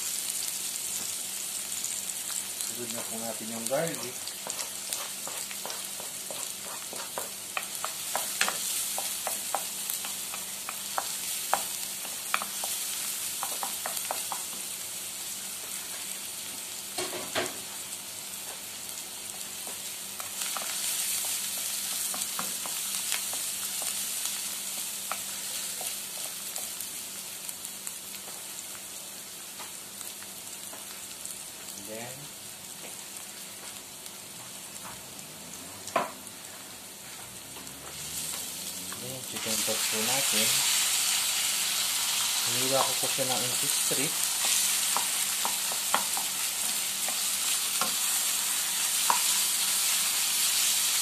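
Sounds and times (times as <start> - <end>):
garlic and onion sizzling in oil: 0.0 - 51.0.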